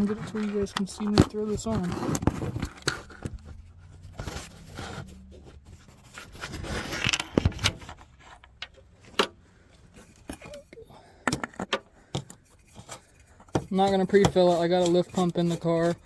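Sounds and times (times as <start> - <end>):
handling scraping and rustling: 0.0 - 16.0.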